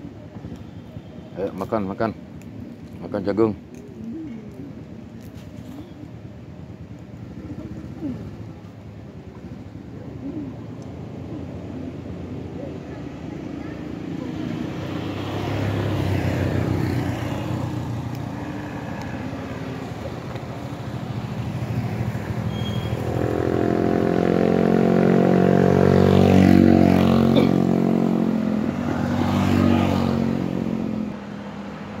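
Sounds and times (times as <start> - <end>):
motor vehicles passing: 0.0 - 32.0.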